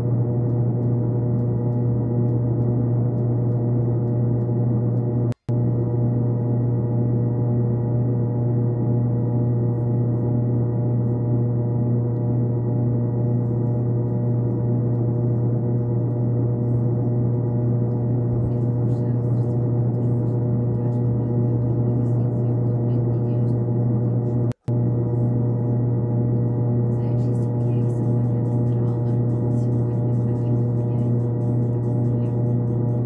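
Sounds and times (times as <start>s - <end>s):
steady drone of held tones: 0.0s - 33.0s.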